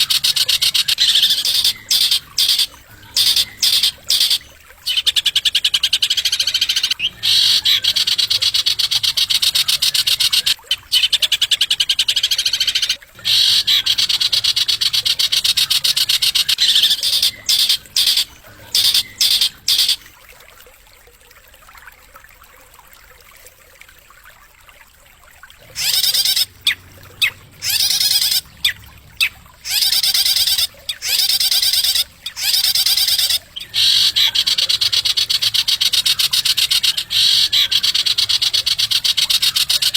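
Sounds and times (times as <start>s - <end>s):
songbird trilling: 0.0s - 20.1s, 25.7s - 39.9s.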